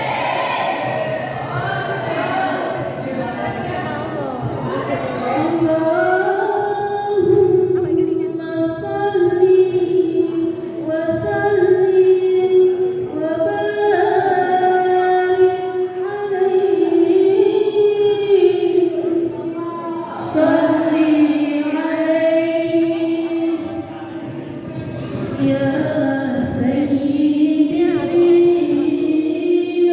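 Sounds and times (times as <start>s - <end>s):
high voices singing devotional song: 0.0s - 29.9s.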